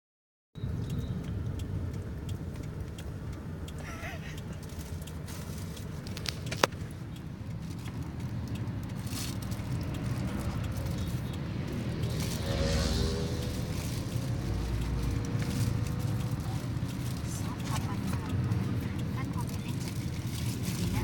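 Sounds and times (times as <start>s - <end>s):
vehicle rumble in motion: 0.6s - 21.0s.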